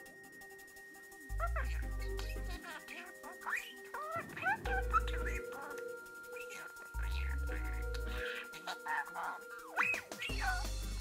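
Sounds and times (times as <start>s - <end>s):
background music: 0.0s - 11.0s
budgerigar chirping: 1.4s - 11.0s.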